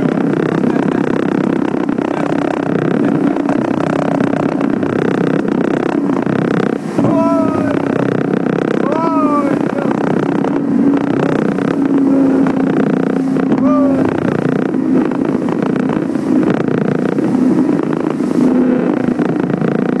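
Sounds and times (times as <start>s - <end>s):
outboard engine running: 0.0s - 20.0s
rush of wind and water: 0.0s - 20.0s.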